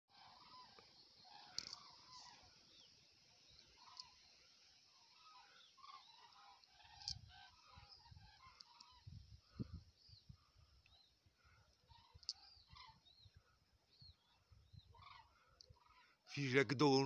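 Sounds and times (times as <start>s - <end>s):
flock of birds calling: 0.1s - 17.0s.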